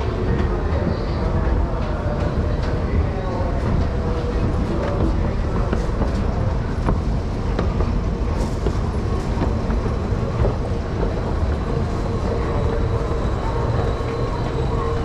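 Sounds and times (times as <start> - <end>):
low rumble of platforms and escalator: 0.0 - 15.0.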